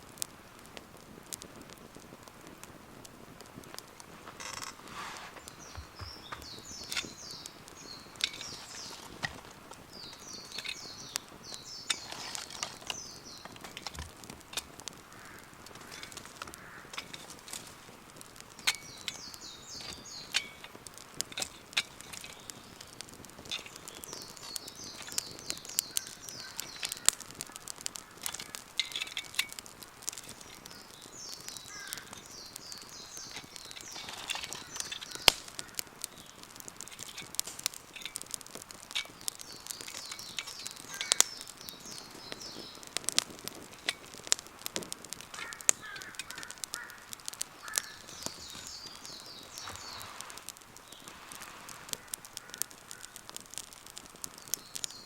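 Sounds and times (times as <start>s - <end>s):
campfire crackling and popping: 0.0s - 55.0s
birds chirping: 3.8s - 55.0s.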